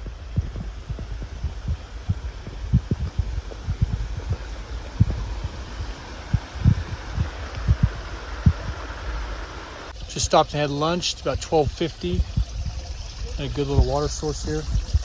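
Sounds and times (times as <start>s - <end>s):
dull low thumps: 0.0s - 15.0s
steady hiss: 0.0s - 15.0s.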